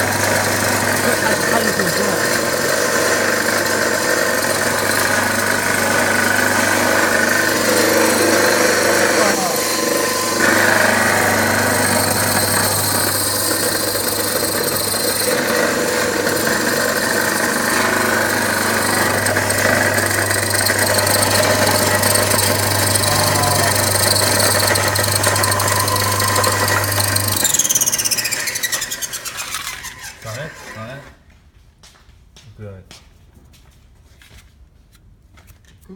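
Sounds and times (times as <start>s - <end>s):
coffee grinder whirring: 0.0s - 31.0s
grinder spinning down: 0.0s - 31.1s.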